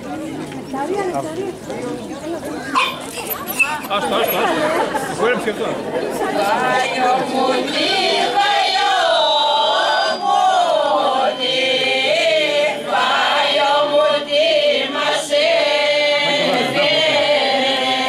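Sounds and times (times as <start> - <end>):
mixed choir singing unaccompanied: 3.3 - 18.0.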